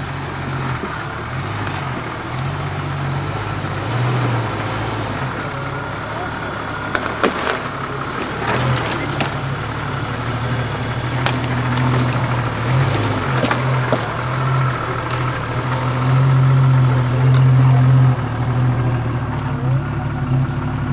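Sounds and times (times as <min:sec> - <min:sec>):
car engine running slowly: 0:00.0 - 0:20.9.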